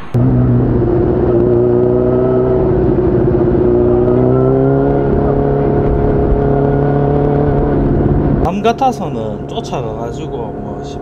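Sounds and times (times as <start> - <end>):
motorcycle engine running: 0.0 - 11.0
wind rumble: 0.0 - 11.0.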